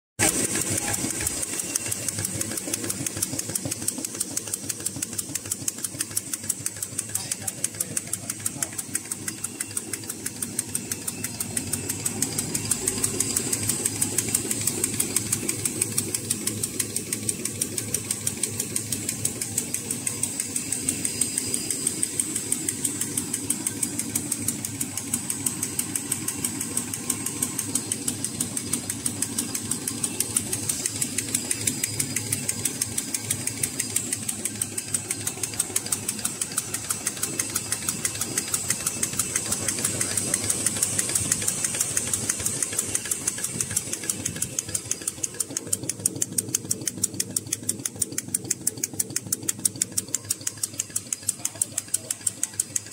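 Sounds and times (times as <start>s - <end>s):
fast mechanical clatter: 0.2s - 52.9s
steady machine hum: 0.2s - 52.9s.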